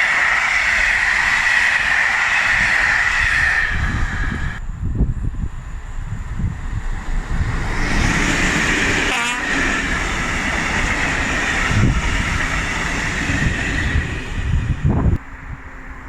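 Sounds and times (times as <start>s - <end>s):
train passing rushing noise: 0.0s - 5.0s, 5.8s - 16.0s.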